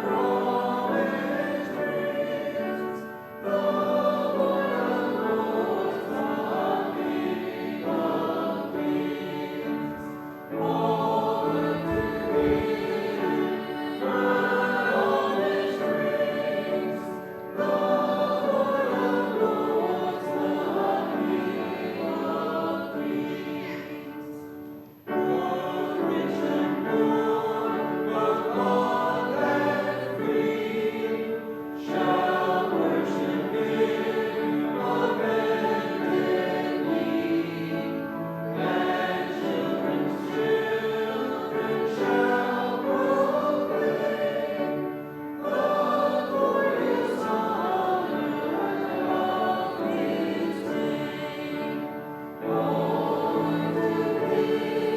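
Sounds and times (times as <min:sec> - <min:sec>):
congregation singing a hymn: 0:00.0 - 0:54.9.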